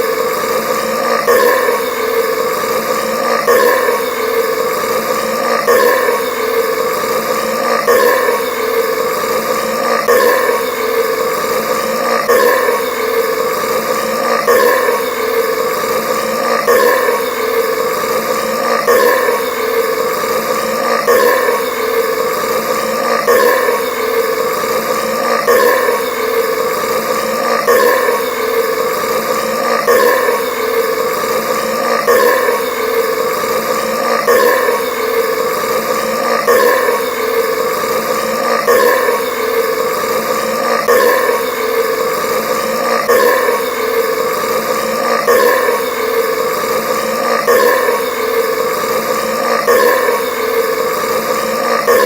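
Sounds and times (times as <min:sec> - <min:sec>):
long loud burp: 0:00.5 - 0:52.0.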